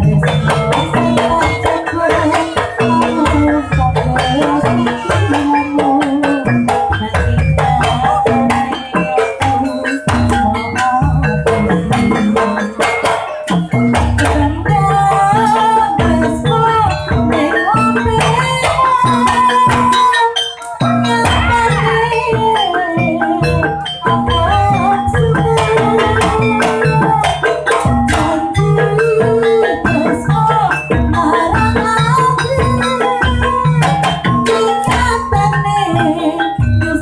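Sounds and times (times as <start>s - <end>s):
drums: 0.0s - 37.0s
struck metal percussion: 0.0s - 37.0s
wavering melody line: 0.0s - 37.0s.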